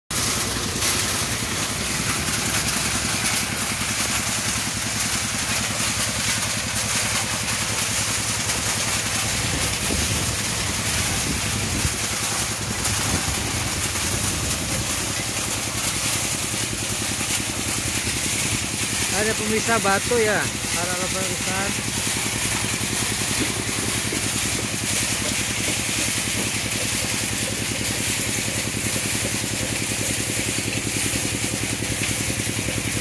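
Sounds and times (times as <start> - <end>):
diesel engine running: 0.1 - 33.0.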